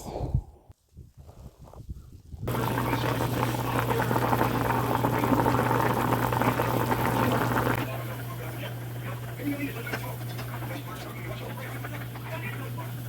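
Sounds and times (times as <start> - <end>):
soup boiling and bubbling: 2.5 - 13.0.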